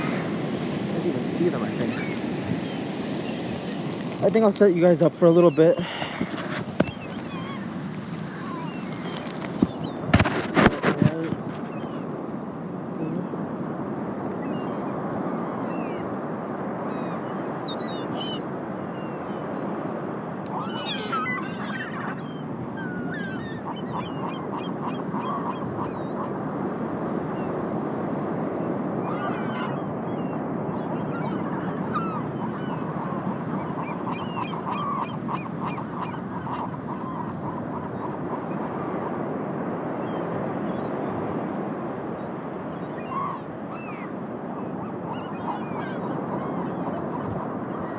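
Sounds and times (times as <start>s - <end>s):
gulls cackling: 0.0s - 47.9s
seagulls calling: 0.0s - 47.9s
surf: 0.0s - 47.9s
wind: 0.0s - 47.9s.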